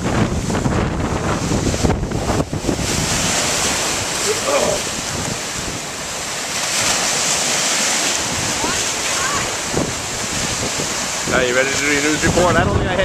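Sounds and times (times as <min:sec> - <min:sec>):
waves washing on shore: 0:00.0 - 0:13.0
wind buffeting microphone: 0:00.0 - 0:13.0.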